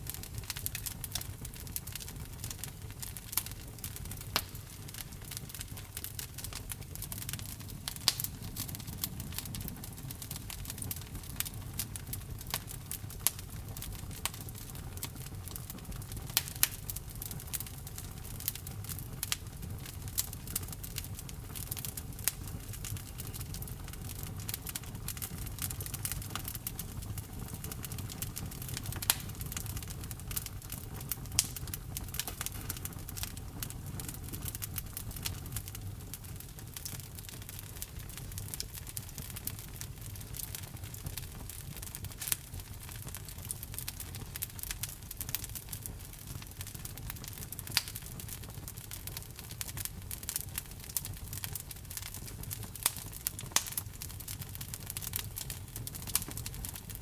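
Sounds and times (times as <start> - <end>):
fire pops and snaps: 0.0 - 57.0
low rumble of burning logs: 0.0 - 57.0
wood fire crackling: 0.0 - 57.0.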